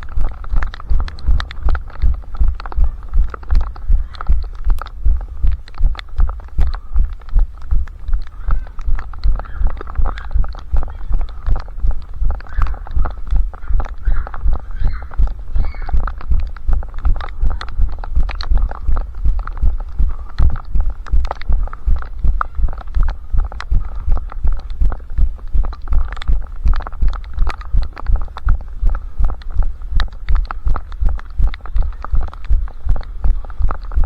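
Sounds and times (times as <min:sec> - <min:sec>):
running footsteps: 0:00.0 - 0:34.0.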